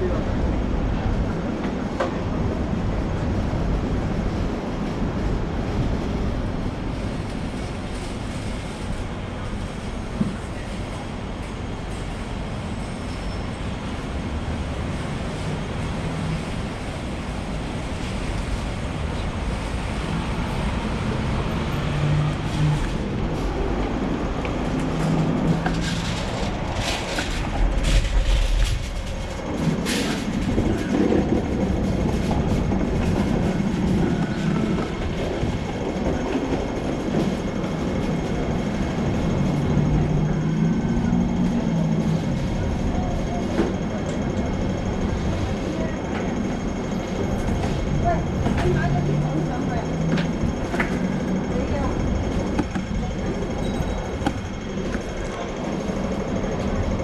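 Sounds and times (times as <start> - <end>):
tram wheels rumbling on rails: 0.0 - 57.0.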